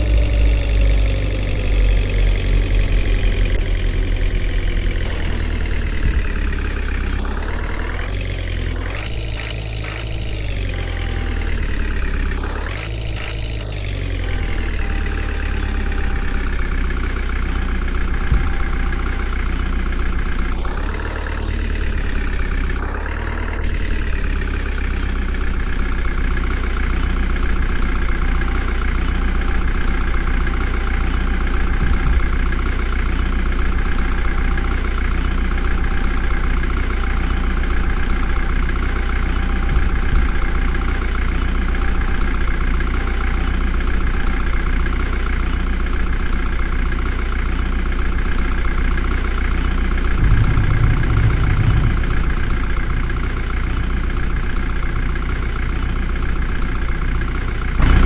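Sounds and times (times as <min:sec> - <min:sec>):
diesel engine idling and revving: 0:00.0 - 0:58.0.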